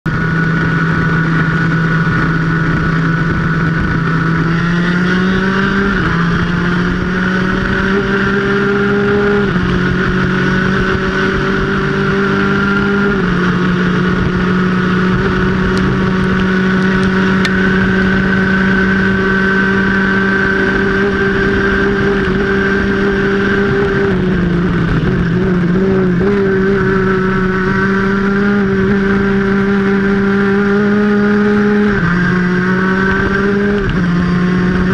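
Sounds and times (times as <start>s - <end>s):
wind and road noise: 0.0s - 34.9s
kart engine at high revs: 0.1s - 34.9s.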